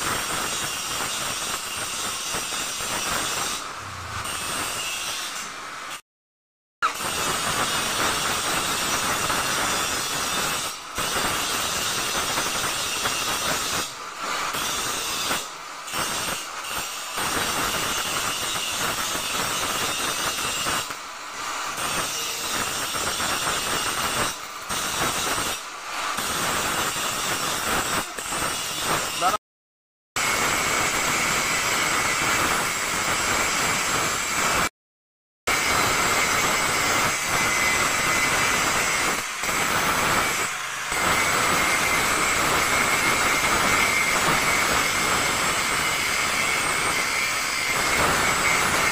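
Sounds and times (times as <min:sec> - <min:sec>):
angle grinder grinding metal: 0:00.1 - 0:06.0, 0:06.8 - 0:29.4, 0:35.5 - 0:48.9.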